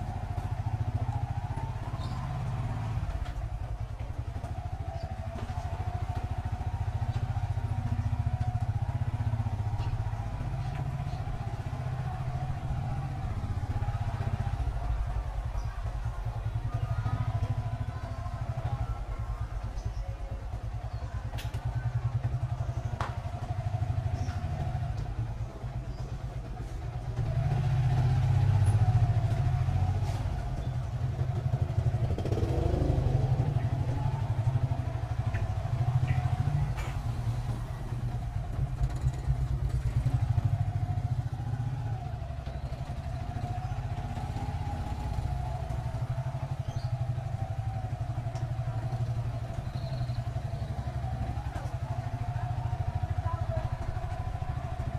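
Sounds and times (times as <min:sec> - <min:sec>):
motorcycle engine riding: 0:00.0 - 0:54.9.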